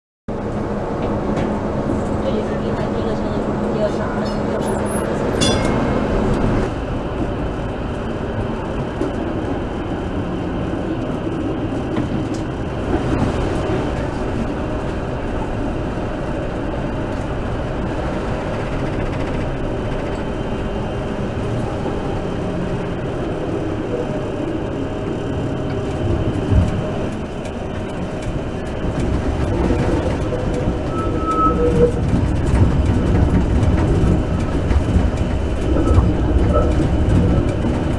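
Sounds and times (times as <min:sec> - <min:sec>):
steel wheels rumbling on rails: 0:00.3 - 0:37.9.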